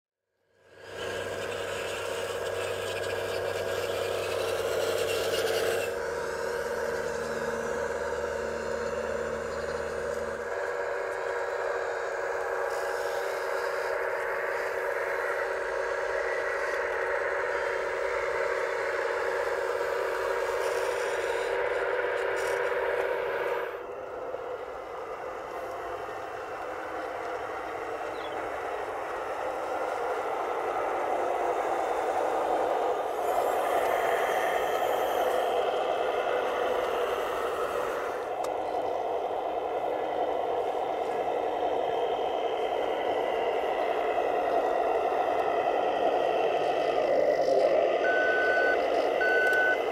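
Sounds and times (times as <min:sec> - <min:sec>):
hydraulic pump whine: 0:00.4 - 0:49.9.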